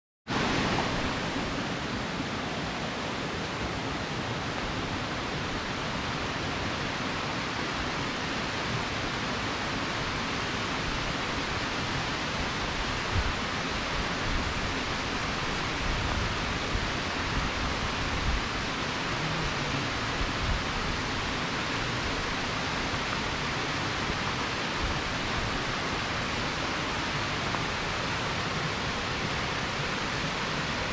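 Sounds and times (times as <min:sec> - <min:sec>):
waterfall rushing: 0:00.3 - 0:30.9.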